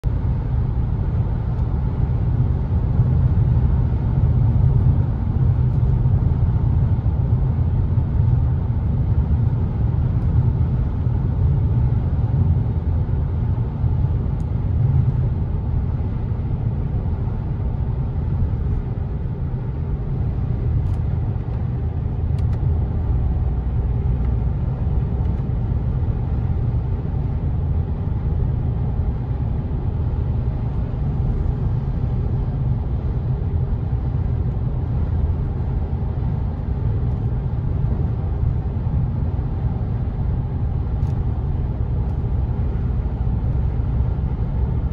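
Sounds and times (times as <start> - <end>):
car running gear rumble: 0.0 - 44.9.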